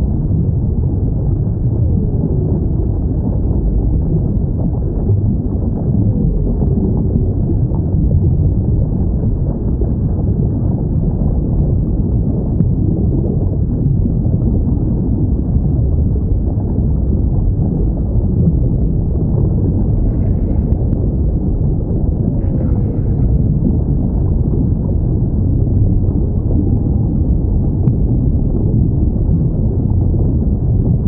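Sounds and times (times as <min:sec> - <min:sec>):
low rumble of ocean noise: 0:00.0 - 0:31.0.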